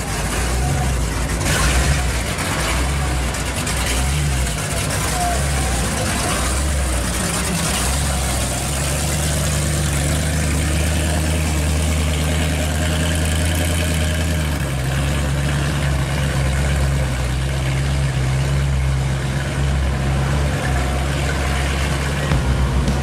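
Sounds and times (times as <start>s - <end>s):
hot rod engine idling: 0.0s - 23.0s.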